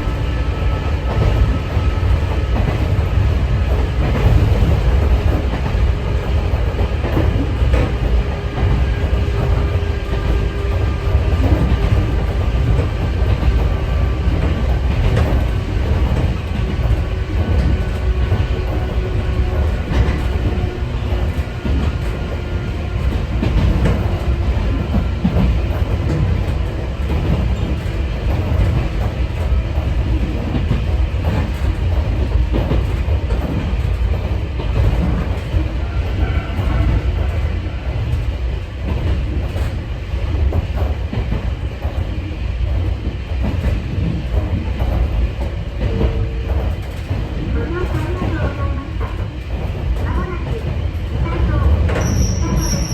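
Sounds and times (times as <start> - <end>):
train rumbling from inside: 0.0 - 52.9.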